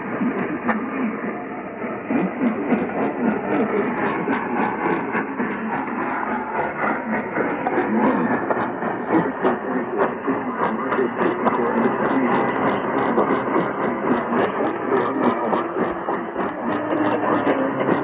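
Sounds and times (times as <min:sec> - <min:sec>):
faint garbled tones: 0:00.0 - 0:18.0
radio static: 0:00.0 - 0:18.0.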